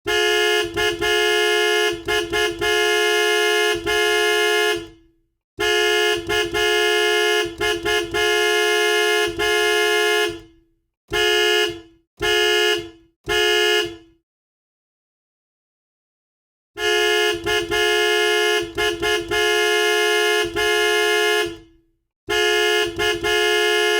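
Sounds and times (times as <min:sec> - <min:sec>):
two-note car horn honking: 0:00.0 - 0:05.0, 0:05.6 - 0:14.2, 0:16.8 - 0:23.9.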